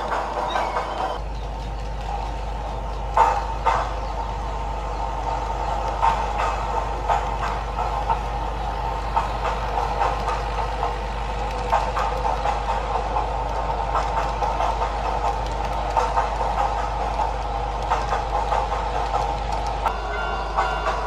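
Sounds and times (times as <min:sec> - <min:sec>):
low hum: 0:00.0 - 0:21.0
wheels clicking over track joints: 0:00.0 - 0:21.0.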